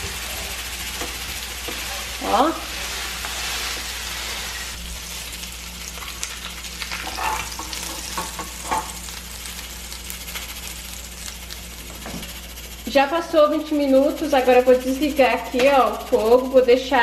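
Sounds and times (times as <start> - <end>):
pork chops sizzling in a pan: 0.0 - 17.0.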